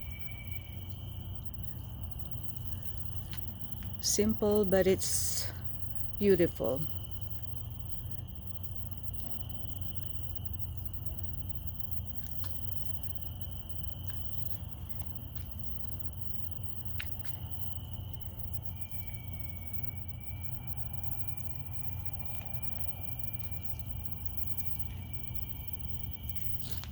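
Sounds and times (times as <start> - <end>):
faint drip clicks: 0.0 - 4.1, 6.9 - 26.9.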